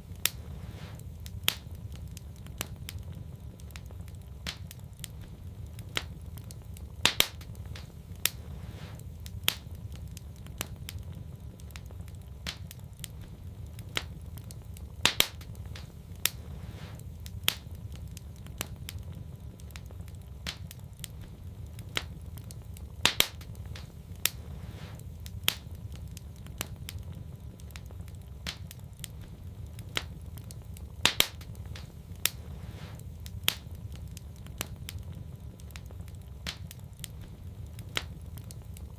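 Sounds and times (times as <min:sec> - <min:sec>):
fire crackling: 0:00.0 - 0:38.9
low rumble of fire: 0:00.0 - 0:38.9
sharp pops of fire: 0:00.0 - 0:38.9.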